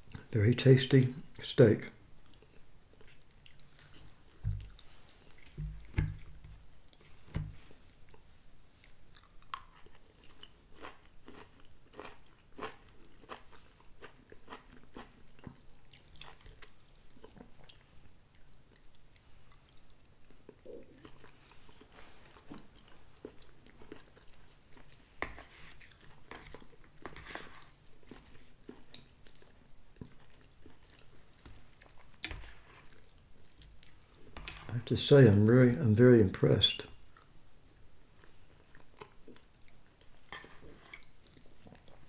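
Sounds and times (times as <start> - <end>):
man chewing food: 2.1 - 34.7, 36.9 - 42.0.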